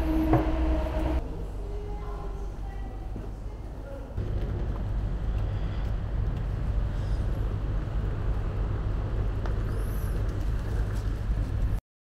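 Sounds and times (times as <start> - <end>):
low rumble of street ambience: 0.0 - 11.8.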